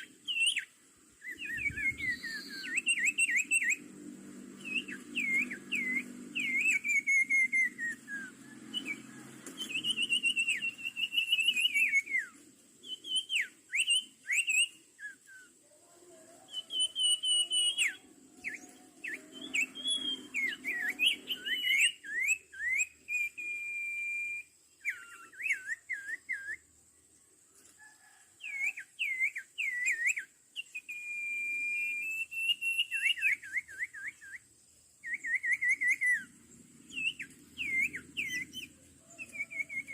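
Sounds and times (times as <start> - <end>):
songbird whistling: 0.0 - 3.9, 4.5 - 15.6, 16.5 - 26.7, 28.0 - 39.9.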